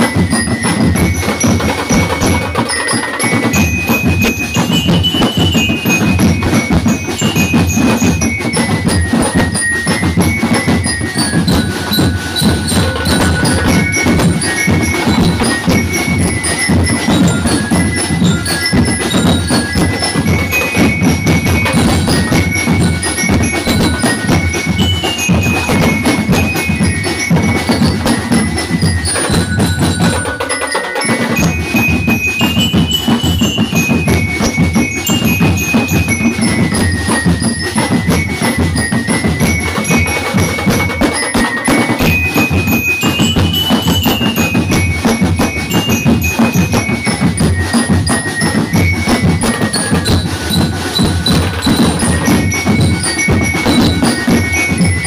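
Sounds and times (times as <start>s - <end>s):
bell lyre melody: 0.0s - 55.0s
snare and bass drumming: 0.0s - 55.0s.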